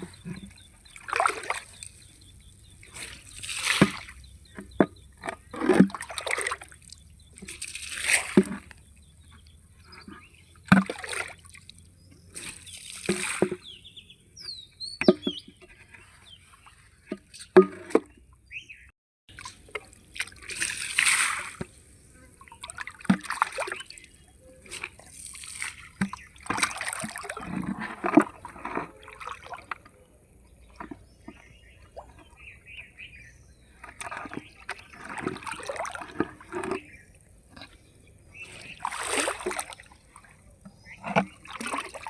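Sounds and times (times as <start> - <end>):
water splashing and trickling: 0.0 - 18.6, 19.3 - 42.0.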